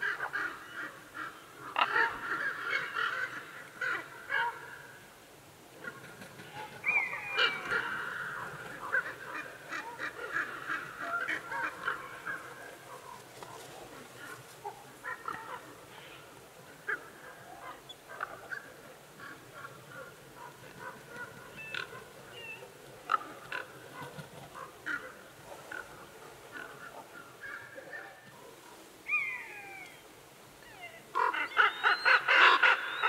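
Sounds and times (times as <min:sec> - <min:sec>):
birds calling: 0:05.7 - 0:33.0.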